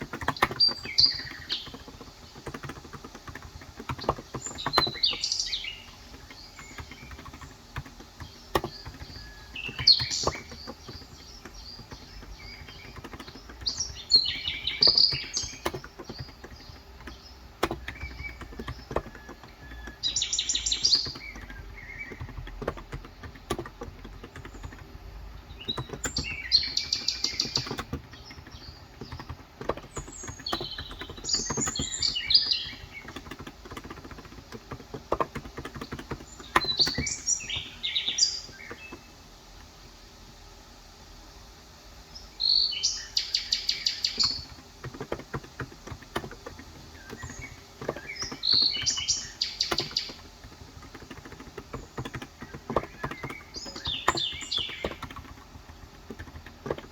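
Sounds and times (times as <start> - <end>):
keyboard keystrokes: 0.0 - 39.7, 43.7 - 56.9
birds chirping: 0.0 - 56.9.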